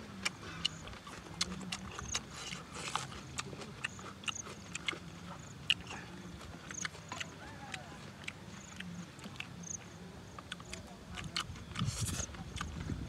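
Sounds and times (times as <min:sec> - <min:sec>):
lip-smacking and chewing: 0:00.0 - 0:13.0.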